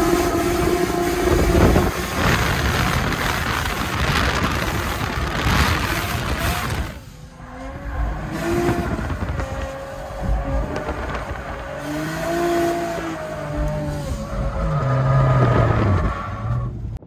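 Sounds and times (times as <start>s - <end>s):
car engine under hard driving: 0.0s - 17.0s
tyre and wind rush: 0.0s - 17.0s.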